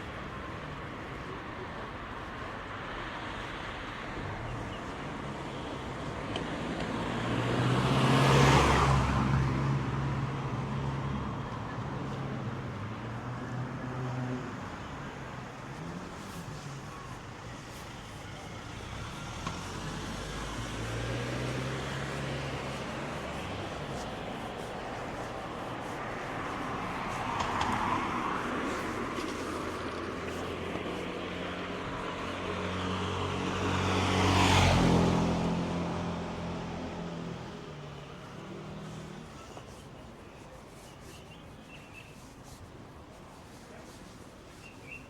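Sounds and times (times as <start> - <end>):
engine hum: 4.1 - 44.7
vehicle passing by: 4.2 - 41.6.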